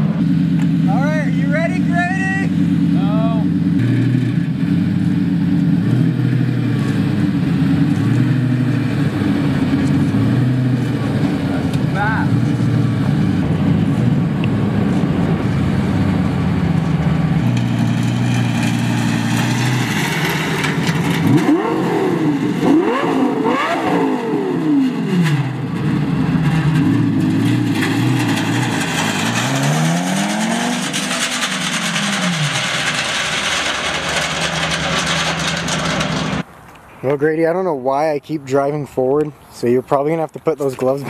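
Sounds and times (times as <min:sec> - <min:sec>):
loud car engine revving: 0:00.0 - 0:36.5.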